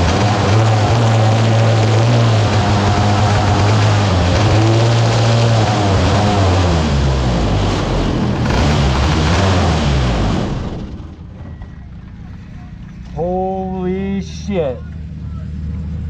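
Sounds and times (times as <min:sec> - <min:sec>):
racing car engines droning: 0:00.0 - 0:16.0.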